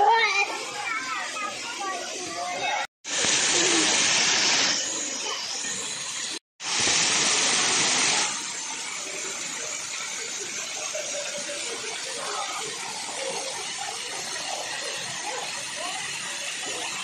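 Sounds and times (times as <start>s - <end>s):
waterfall pouring onto rocks: 3.1s - 17.0s.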